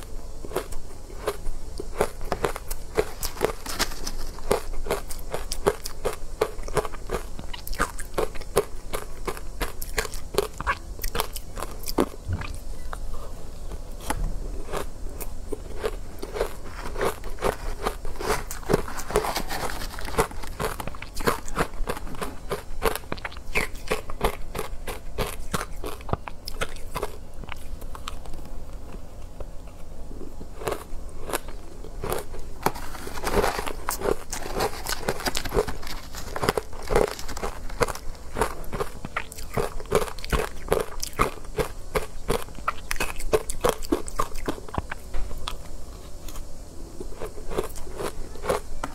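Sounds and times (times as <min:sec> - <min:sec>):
chewing crunchy ice: 0:00.0 - 0:12.9, 0:14.5 - 0:29.0, 0:30.2 - 0:46.4, 0:47.1 - 0:48.8.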